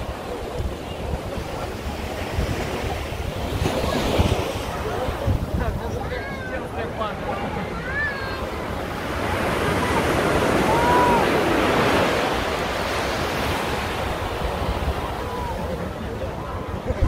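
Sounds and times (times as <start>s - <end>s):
ocean surf on sandy beach: 0.0s - 17.0s.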